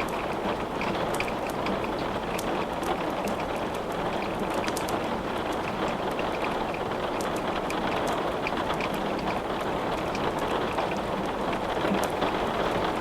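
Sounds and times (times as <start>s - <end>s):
sharp crackles and ticks: 0.0s - 12.1s
steady rain: 0.0s - 13.0s.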